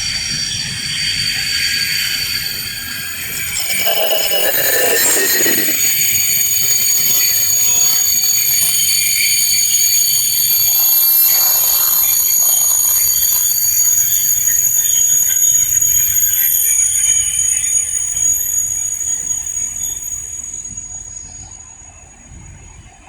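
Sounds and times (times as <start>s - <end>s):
train high-pitched whine: 0.0s - 22.5s.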